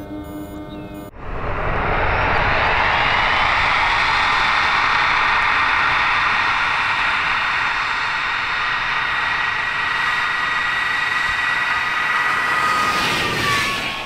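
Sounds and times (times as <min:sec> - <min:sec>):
model jet engines whining: 0:00.0 - 0:14.0.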